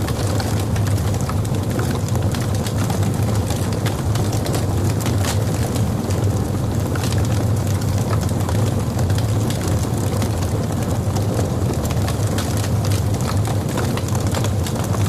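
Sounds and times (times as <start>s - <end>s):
fire roaring: 0.0s - 15.0s
logs crackling and popping: 0.0s - 15.0s.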